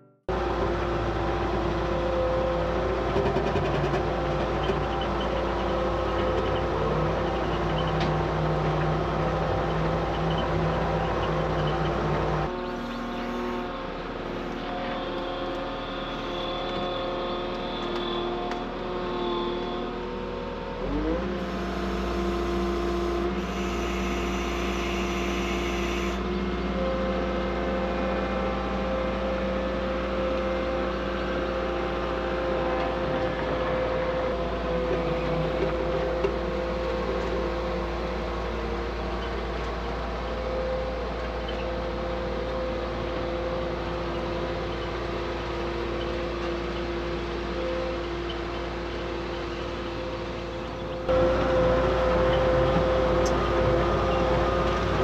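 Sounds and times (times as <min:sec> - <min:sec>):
loader engine running: 0:00.0 - 0:55.0.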